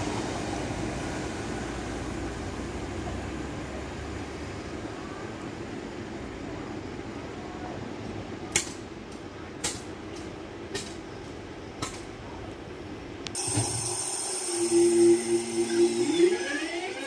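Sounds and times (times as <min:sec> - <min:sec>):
electric train hiss and rumble: 0:00.0 - 0:17.0
steady background noise: 0:00.0 - 0:17.0.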